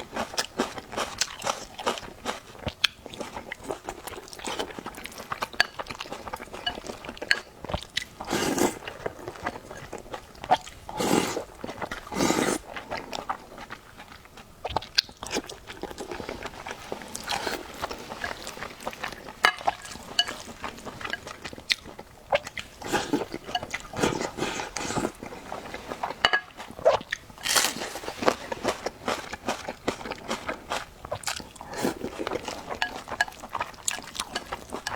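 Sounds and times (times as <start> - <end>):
person chewing food: 0.0 - 34.9.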